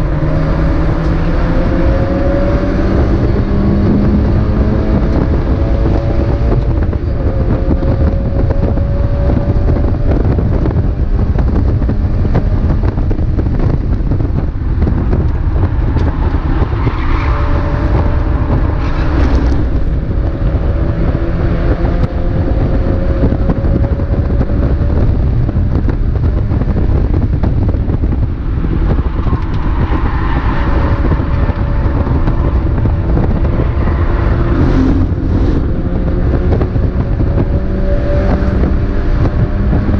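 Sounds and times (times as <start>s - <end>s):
race car engine running hard: 0.0s - 39.9s
road and wind noise: 0.0s - 39.9s.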